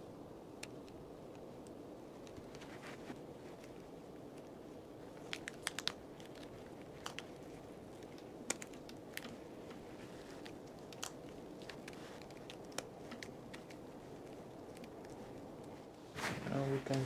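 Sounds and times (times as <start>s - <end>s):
faint clicks and crackles: 0.5s - 17.0s.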